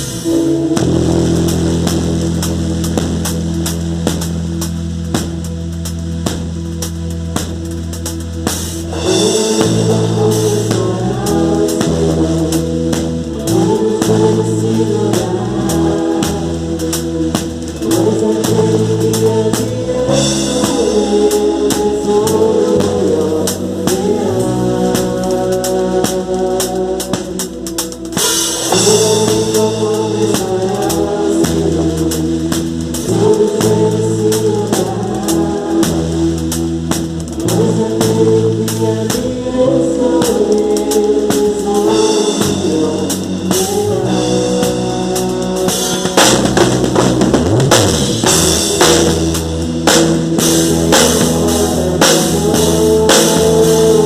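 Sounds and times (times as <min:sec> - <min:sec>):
person singing: 0:00.0 - 0:02.6, 0:08.9 - 0:54.0
bass: 0:00.0 - 0:54.0
drum kit beat: 0:00.0 - 0:54.0
sustained keyboard chords: 0:00.0 - 0:54.0.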